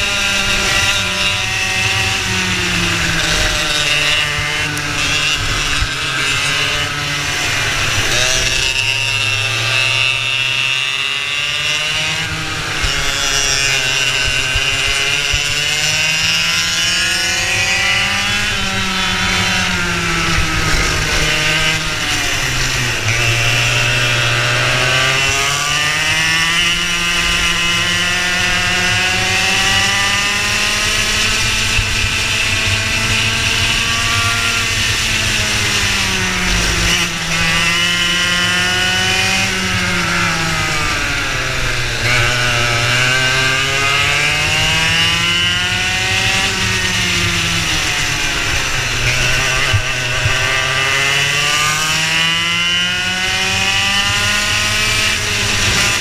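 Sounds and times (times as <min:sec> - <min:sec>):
go-kart engine accelerating: 0:00.0 - 0:56.0.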